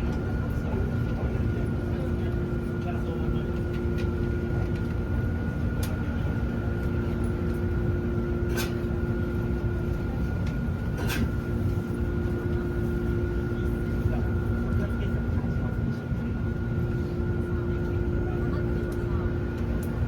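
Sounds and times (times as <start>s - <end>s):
low train cabin rumble: 0.0s - 20.0s.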